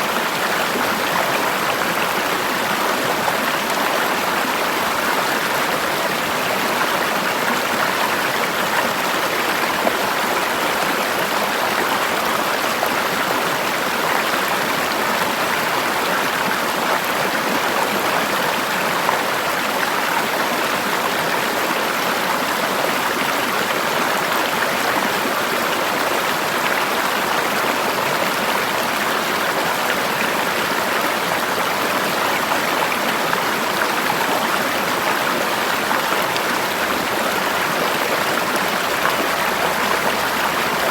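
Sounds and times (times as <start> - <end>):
water flowing over rocks: 0.0 - 40.9.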